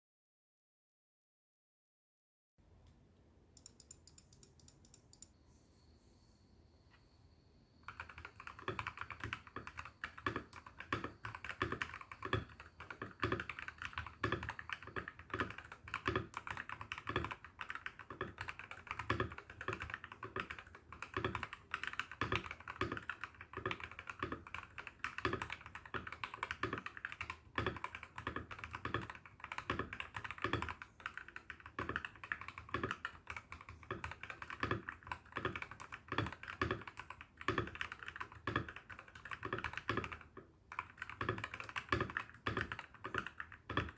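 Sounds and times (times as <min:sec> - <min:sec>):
mechanical keyboard typing: 0:03.6 - 0:05.3, 0:07.9 - 0:43.9.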